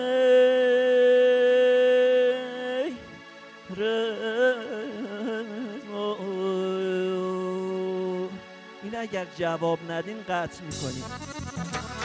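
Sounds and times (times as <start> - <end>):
man singing through microphone: 0.0 - 11.2.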